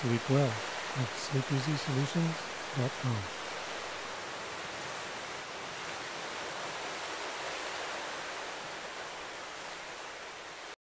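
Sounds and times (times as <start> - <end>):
ocean surf washing on shore: 0.0 - 10.8.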